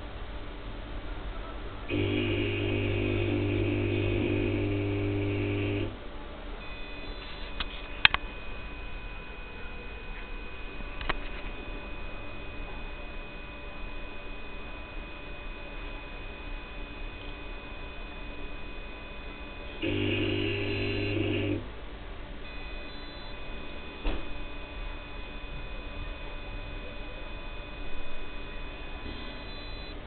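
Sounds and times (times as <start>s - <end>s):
faint hum and whine: 0.0s - 30.0s
lamp ballast mains hum: 1.9s - 30.0s.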